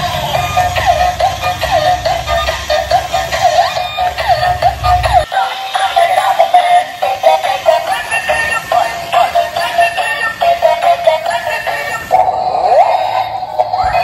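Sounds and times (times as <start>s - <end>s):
electronic song from toy speaker: 0.0s - 14.0s
synthesized singing voice: 0.0s - 14.0s.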